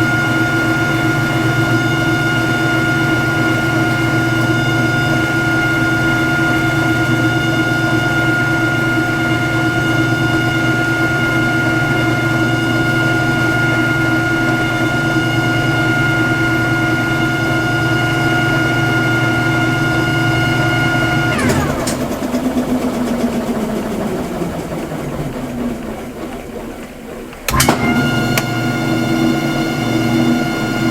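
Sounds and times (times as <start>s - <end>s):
low motor hum: 0.0s - 30.9s
washing machine whining: 0.0s - 30.9s.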